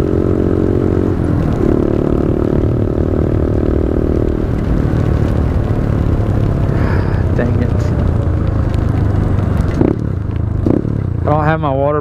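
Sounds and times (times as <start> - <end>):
low wind rumble: 0.0 - 12.0
motorcycle engine running: 0.0 - 12.0.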